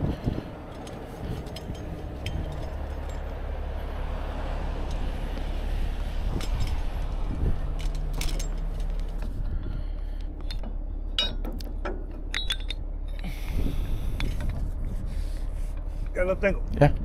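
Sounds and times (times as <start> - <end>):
truck engine droning: 0.0 - 17.0
metal hooks and chains clinking: 0.2 - 9.8, 10.4 - 14.7.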